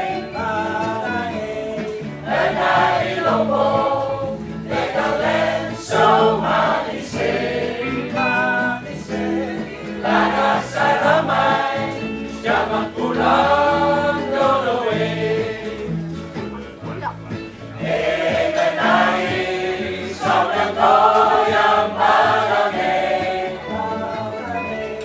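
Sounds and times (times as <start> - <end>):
choir singing: 0.0 - 16.1, 17.8 - 25.0.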